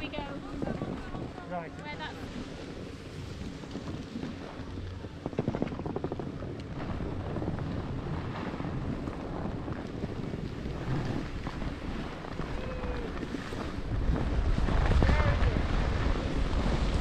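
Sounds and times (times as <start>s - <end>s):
wind rushing over microphone: 0.0s - 17.0s
skis scraping: 1.8s - 17.0s.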